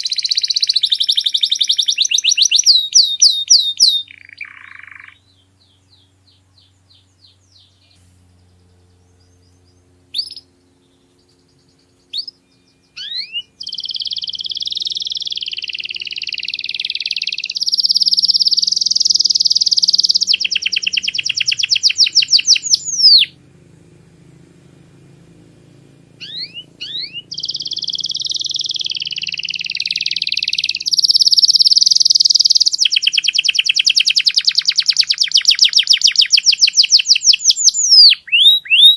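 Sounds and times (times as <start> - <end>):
canary singing trills: 0.0 - 24.2, 25.0 - 38.9.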